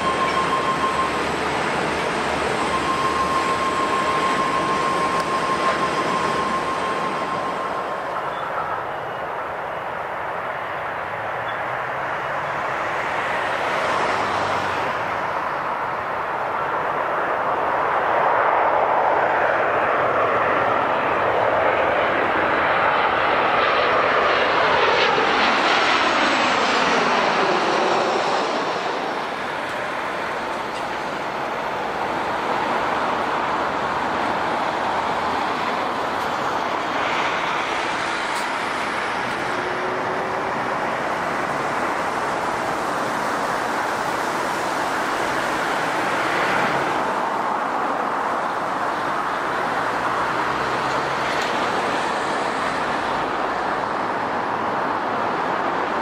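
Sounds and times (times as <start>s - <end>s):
jet engines passing overhead: 0.0s - 56.0s
rumble of jet noise: 0.0s - 56.0s.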